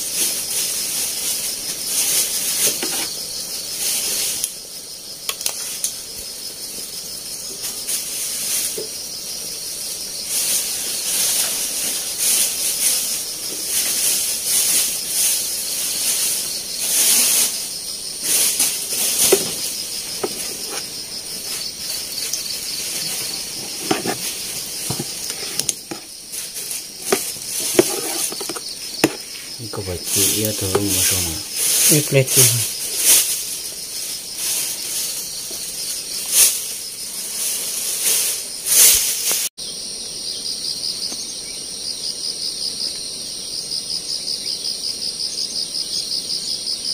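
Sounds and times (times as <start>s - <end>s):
high-pitched pulsing hiss: 0.0s - 41.7s.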